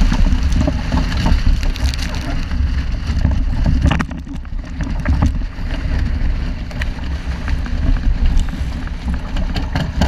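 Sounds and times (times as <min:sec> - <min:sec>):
water splashing against hull: 0:00.0 - 0:10.0
wind buffeting microphone: 0:00.0 - 0:10.0.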